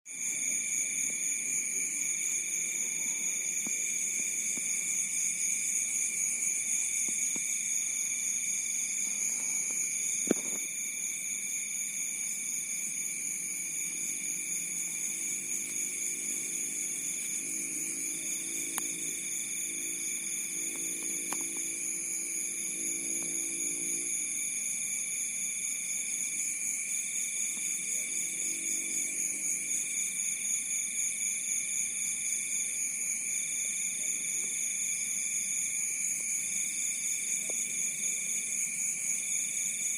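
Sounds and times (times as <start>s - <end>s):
crickets chirring: 0.1s - 39.9s.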